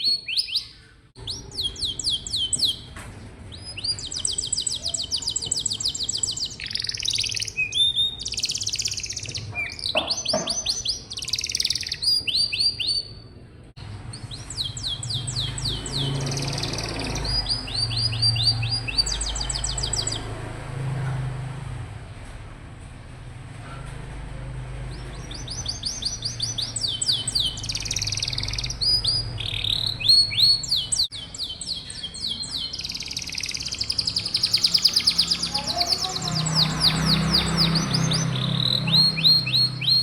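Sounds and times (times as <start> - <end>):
canary singing trills: 0.0 - 20.7, 24.8 - 40.0.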